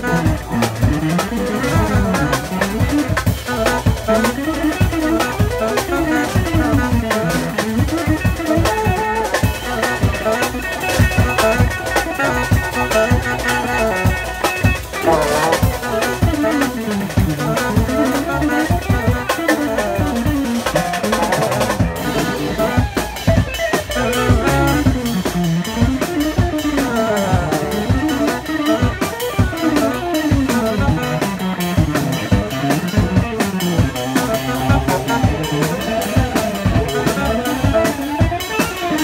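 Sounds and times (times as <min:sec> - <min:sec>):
alto saxophone: 0:00.0 - 0:39.0
drum kit beat: 0:00.0 - 0:39.0
electric guitar: 0:00.0 - 0:39.0.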